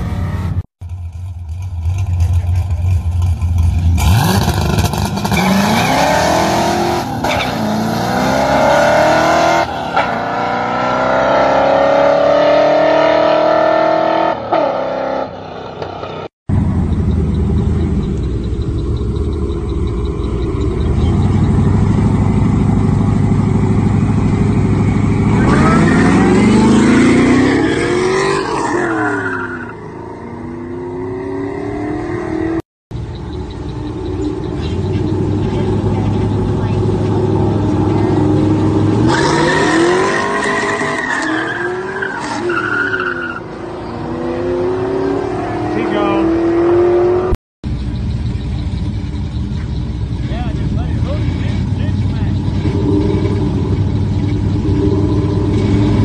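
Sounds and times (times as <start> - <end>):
engines revving through gear changes: 1.8 - 56.0
cars accelerating past: 3.7 - 32.6, 33.4 - 47.4, 48.3 - 56.0.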